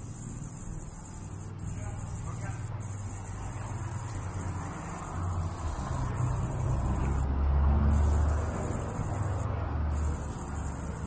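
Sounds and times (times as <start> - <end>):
vehicle engine rumble passing: 0.7 - 11.0.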